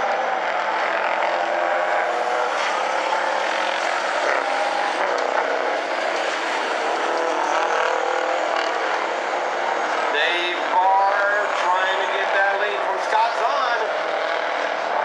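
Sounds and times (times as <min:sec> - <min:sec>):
truck engines racing: 0:00.0 - 0:15.0.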